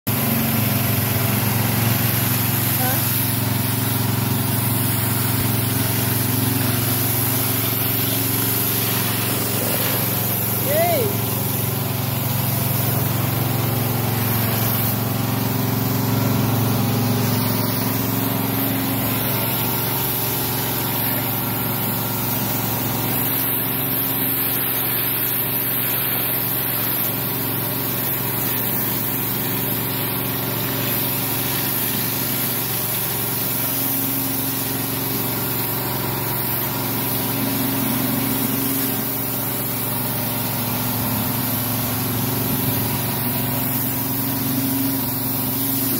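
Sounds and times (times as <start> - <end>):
pressure washer motor hum: 0.0 - 45.9
water jets hissing on paving: 0.1 - 45.9.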